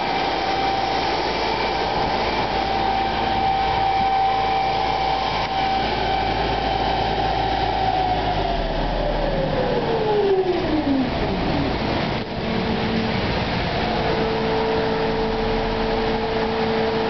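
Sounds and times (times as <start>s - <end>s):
dynamometer rollers whining: 0.0s - 17.0s.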